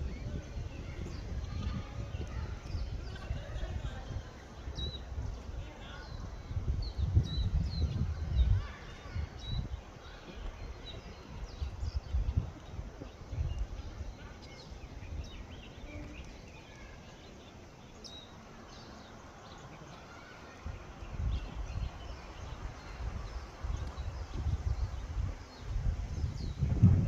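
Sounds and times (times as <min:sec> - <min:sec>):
birds chirping: 0:00.0 - 0:27.0
wind rumble on microphone: 0:00.0 - 0:27.0.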